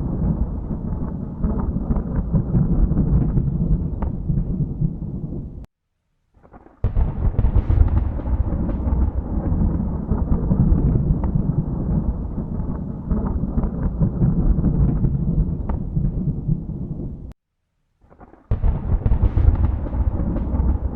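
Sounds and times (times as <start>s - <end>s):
loud thunderclap: 0.0s - 5.7s, 6.8s - 17.3s, 18.5s - 20.9s
thunder rumbling: 0.0s - 5.7s, 6.8s - 17.3s, 18.5s - 20.9s.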